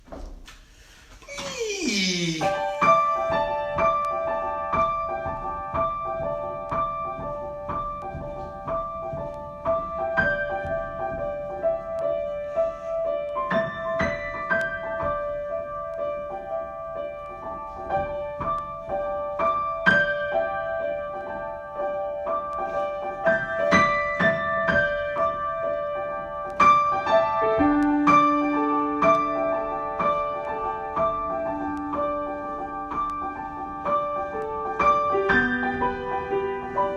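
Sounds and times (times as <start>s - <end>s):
solo piano improvisation: 1.3s - 36.9s.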